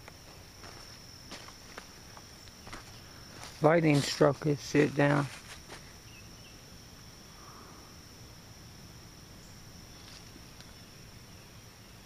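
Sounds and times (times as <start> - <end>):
insect chorus drone: 0.0 - 12.0.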